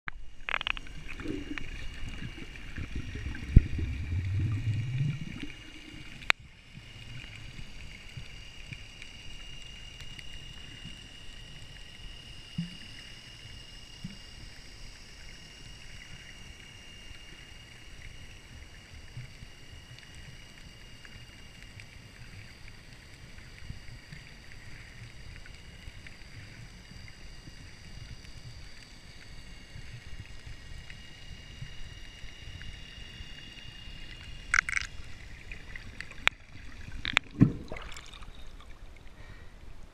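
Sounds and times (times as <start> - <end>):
thin high whine: 0.1 - 39.9
muffled underwater sloshing: 0.2 - 11.7, 17.9 - 39.9.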